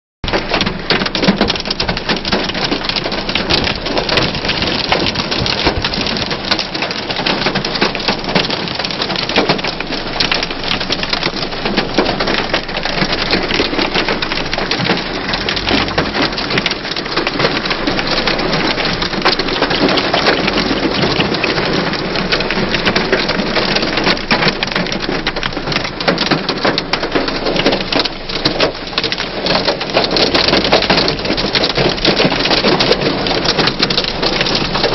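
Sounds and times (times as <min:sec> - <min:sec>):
hailstones pelting car: 0:00.3 - 0:34.9.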